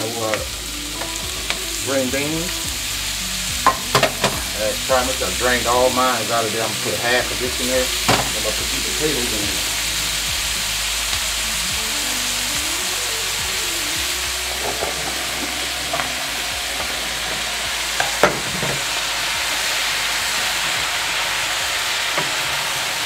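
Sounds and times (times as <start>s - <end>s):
beans sizzling in a pot: 0.0s - 23.0s.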